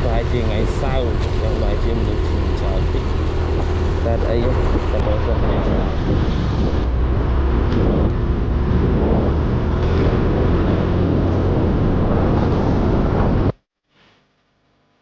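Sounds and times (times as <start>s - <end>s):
vehicle engine and road rumble: 0.0s - 13.6s.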